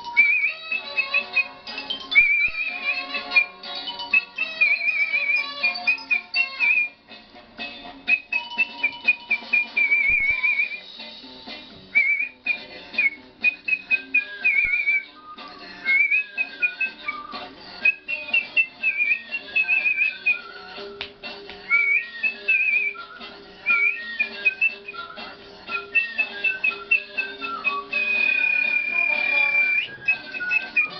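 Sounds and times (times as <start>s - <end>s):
person whistling a tune: 0.0s - 7.0s, 8.1s - 10.9s, 11.9s - 21.0s, 21.7s - 30.9s
quiet musical accompaniment: 0.0s - 30.9s.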